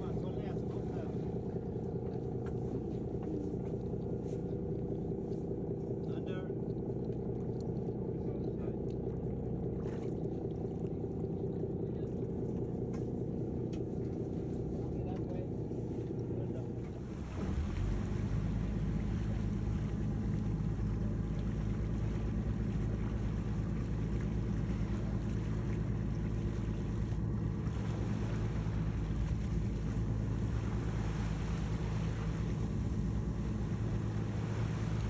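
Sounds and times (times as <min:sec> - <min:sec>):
boat engine droning: 0:00.0 - 0:35.0
water rushing along hull: 0:00.0 - 0:35.0.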